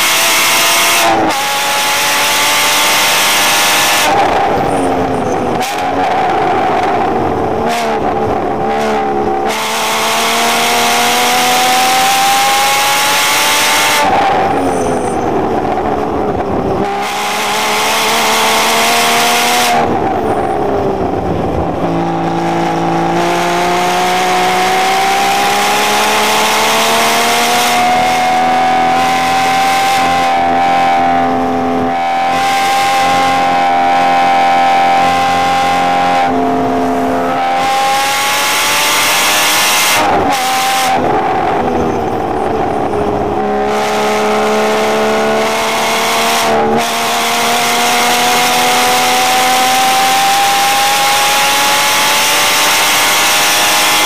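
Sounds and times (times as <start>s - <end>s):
road and wind noise: 0.0s - 54.0s
sports car engine revving: 0.0s - 54.0s.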